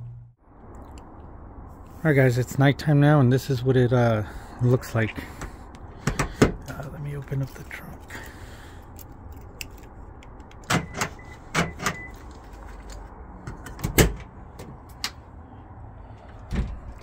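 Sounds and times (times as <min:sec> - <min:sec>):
low steady rumble: 0:00.0 - 0:13.7.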